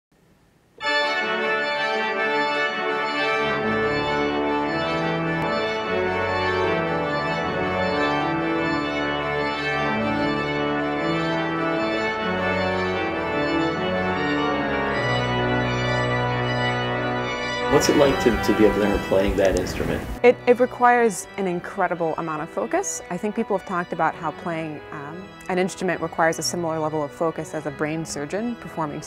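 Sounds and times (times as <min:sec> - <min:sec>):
deep organ pedal bass: 0:00.8 - 0:29.0
pipe organ chords: 0:00.8 - 0:29.0.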